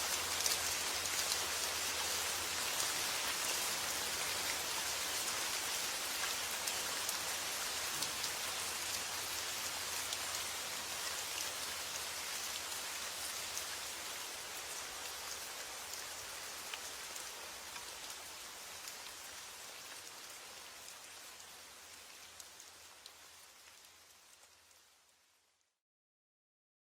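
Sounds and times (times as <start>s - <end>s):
rain hissing: 0.0s - 25.3s
raindrops ticking on surface: 0.0s - 25.3s.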